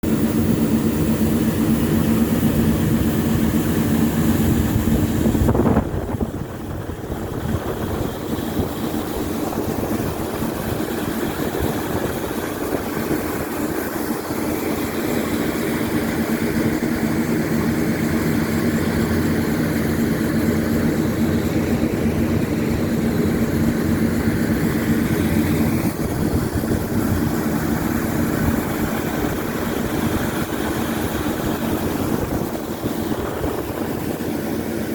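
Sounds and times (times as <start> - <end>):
combine harvester engine drone: 0.0 - 34.9
threshing machinery noise: 0.0 - 34.9.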